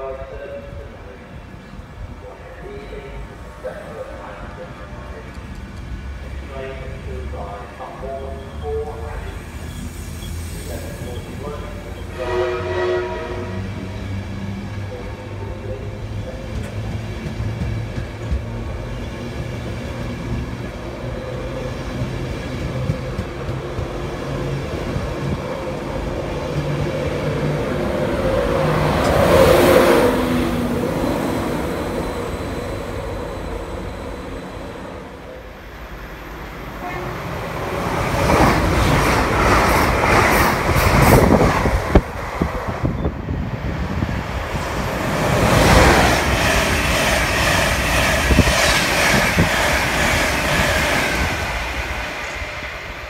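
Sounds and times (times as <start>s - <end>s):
train hum and wheel rumble: 0.0s - 53.0s
train passing: 0.0s - 53.0s.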